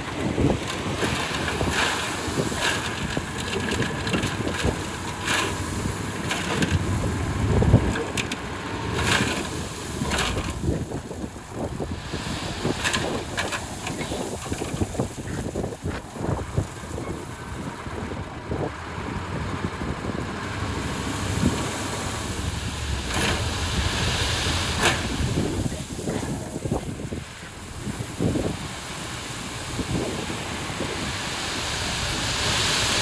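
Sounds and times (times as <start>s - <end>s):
clanks and gravel crunching: 0.0s - 30.3s
diesel engine running: 0.0s - 33.0s
wind buffeting microphone: 0.0s - 33.0s.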